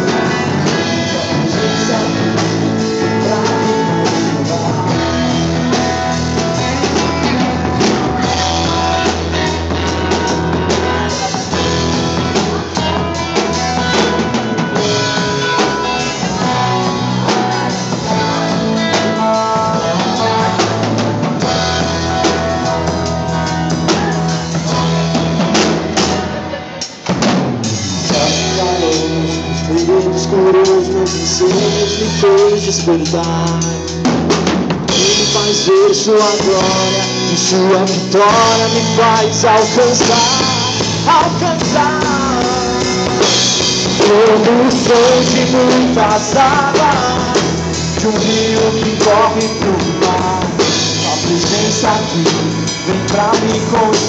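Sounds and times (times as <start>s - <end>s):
band playing with drums and guitar: 0.0s - 54.0s.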